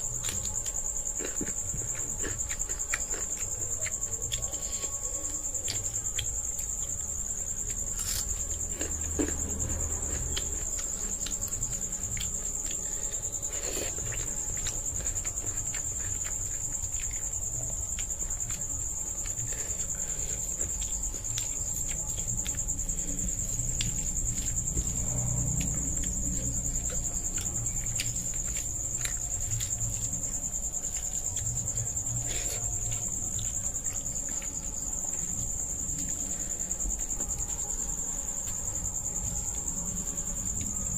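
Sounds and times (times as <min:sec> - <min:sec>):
cricket trill: 0:00.0 - 0:40.9.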